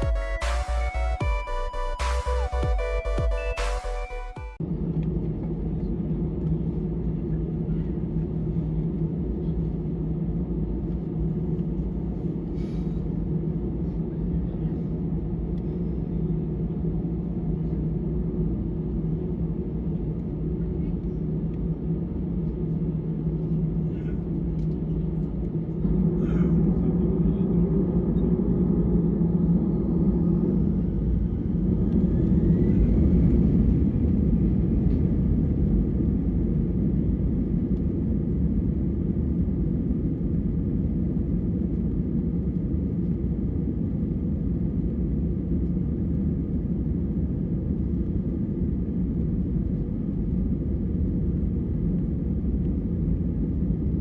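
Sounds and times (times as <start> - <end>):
jet engines roaring in cabin: 4.3 - 54.0.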